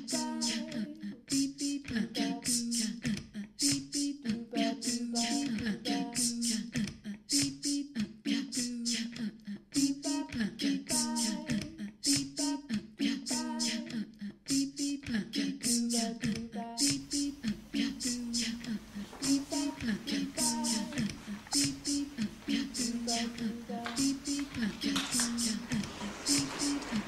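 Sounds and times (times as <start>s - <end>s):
song with voice and percussive beat: 0.0s - 27.0s.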